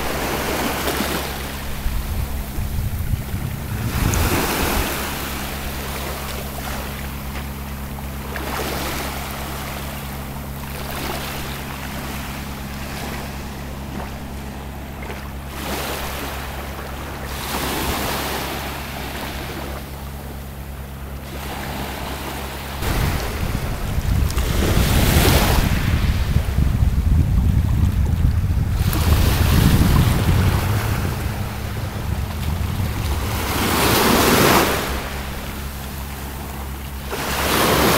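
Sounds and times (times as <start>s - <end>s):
wind buffeting microphone: 0.0s - 18.2s, 22.8s - 37.9s
sea waves breaking on beach: 0.0s - 37.9s.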